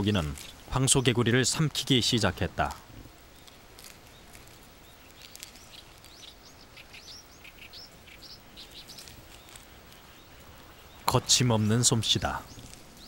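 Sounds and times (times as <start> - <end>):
faint steady hiss: 0.0 - 13.0
small birds chirping: 0.0 - 13.0.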